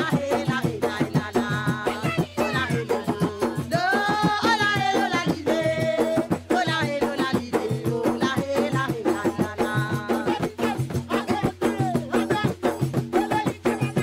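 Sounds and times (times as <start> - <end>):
frame drums: 0.0 - 14.0
person singing: 0.0 - 14.0
shaken percussion: 0.0 - 14.0.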